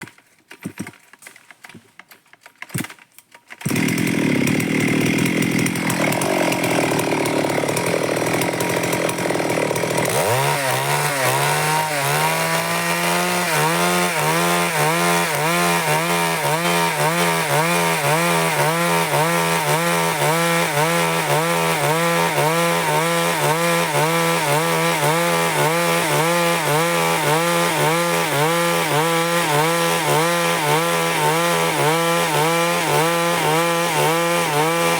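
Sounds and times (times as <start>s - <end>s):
chainsaw cutting wood: 0.0s - 1.8s, 2.6s - 34.9s.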